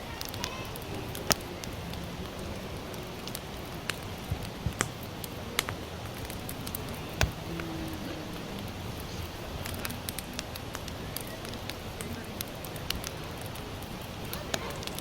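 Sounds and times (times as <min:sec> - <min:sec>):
campfire logs crackling and popping: 0:00.0 - 0:15.0
steady hiss: 0:00.0 - 0:15.0.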